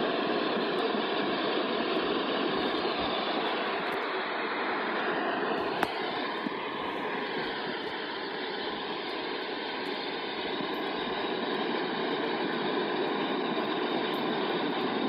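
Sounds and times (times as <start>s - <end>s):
faint wavering whine: 0.0s - 15.0s
radio static hissing: 0.0s - 15.0s.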